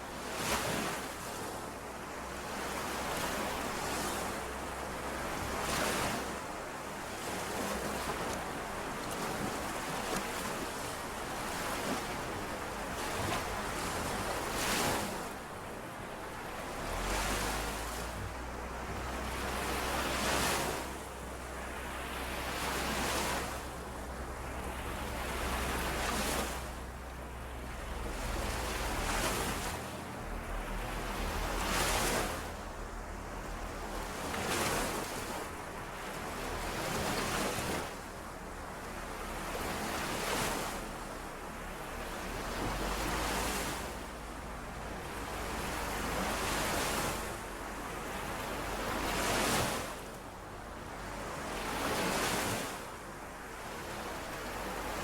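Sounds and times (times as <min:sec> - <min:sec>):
lake waves washing on shore: 0:00.0 - 0:55.0.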